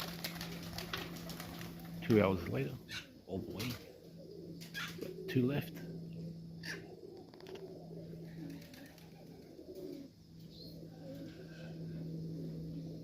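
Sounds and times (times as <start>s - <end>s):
pigeons cooing: 0.0s - 13.0s
steady low hum: 0.0s - 13.0s.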